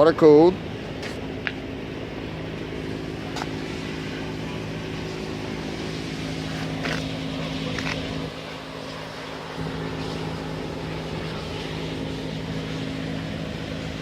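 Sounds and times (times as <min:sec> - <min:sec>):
concrete pump engine running: 0:00.0 - 0:14.0.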